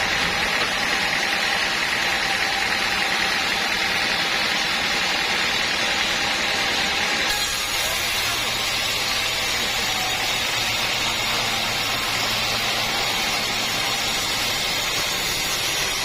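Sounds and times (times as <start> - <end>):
sawmill machinery hum: 0.0 - 16.0.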